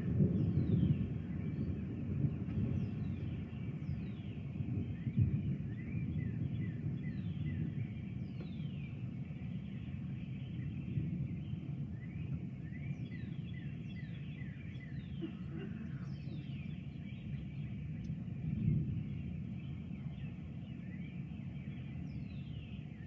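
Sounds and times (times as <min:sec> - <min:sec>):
steady low rumble: 0:00.0 - 0:23.0
songbirds whistling: 0:00.2 - 0:23.0.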